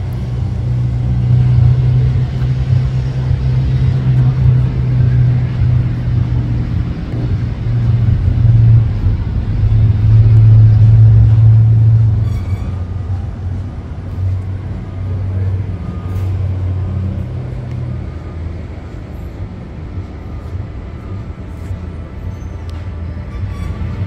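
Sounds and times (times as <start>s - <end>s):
loud low rumble: 0.0s - 24.0s.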